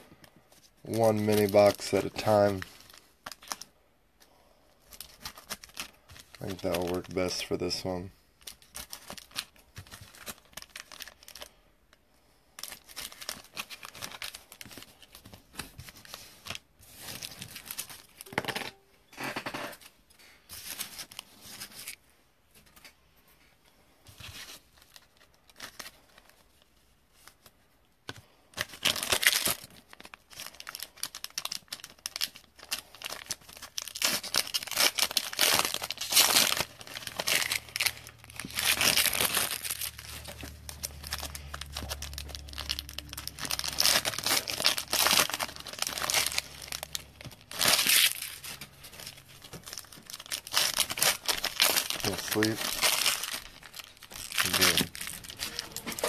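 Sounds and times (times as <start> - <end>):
foil wrappers torn and crinkled: 0.9 - 3.7, 4.8 - 11.6, 12.5 - 18.3, 24.2 - 27.5, 28.5 - 56.0.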